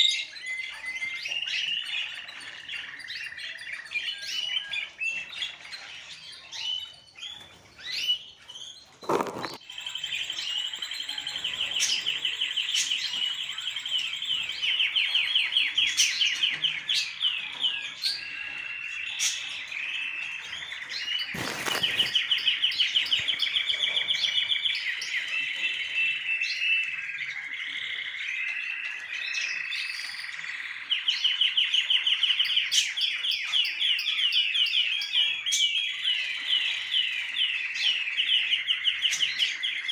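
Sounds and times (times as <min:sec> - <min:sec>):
pet birds chirping and trilling: 0:00.0 - 0:39.9.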